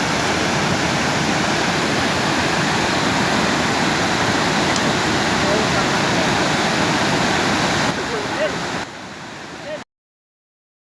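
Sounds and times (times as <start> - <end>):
fast river rushing: 0.0 - 9.8.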